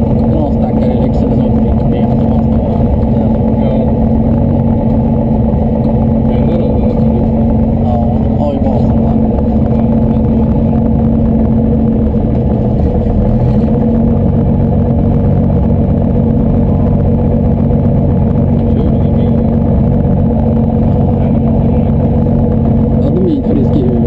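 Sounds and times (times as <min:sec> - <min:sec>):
propeller plane engine running: 0:00.0 - 0:24.0.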